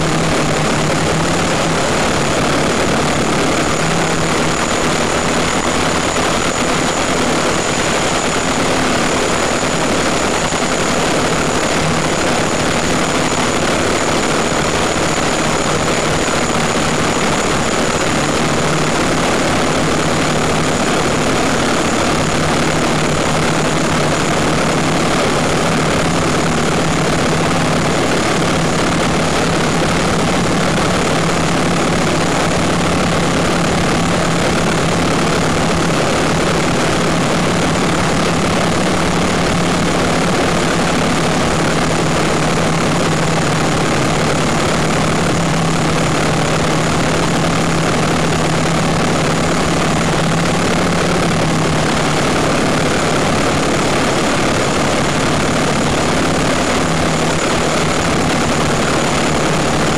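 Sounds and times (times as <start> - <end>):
drone motors and propellers: 0.0 - 59.9.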